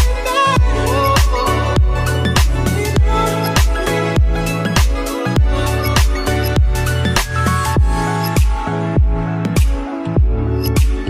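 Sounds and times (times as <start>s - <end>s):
deep kick drum: 0.0s - 6.9s, 7.8s - 11.0s
electronic r and b beat: 0.0s - 11.0s
sustained synth chords: 0.1s - 11.0s.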